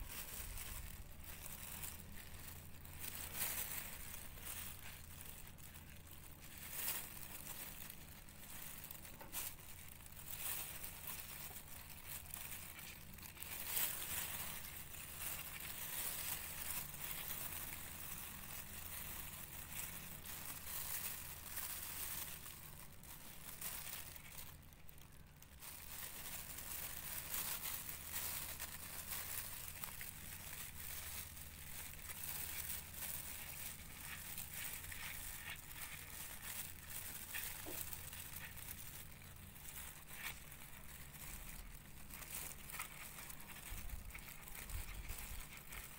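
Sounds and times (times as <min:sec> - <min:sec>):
plastic bags crinkling: 0:00.0 - 0:45.9.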